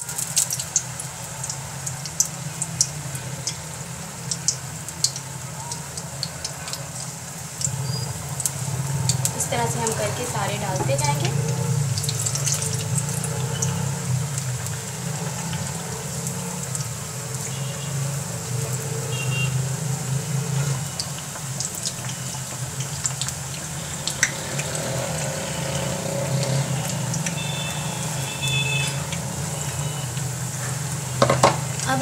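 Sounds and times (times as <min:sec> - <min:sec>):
food deep-frying in oil: 0:00.0 - 0:32.0
popping and crackling oil: 0:00.0 - 0:32.0.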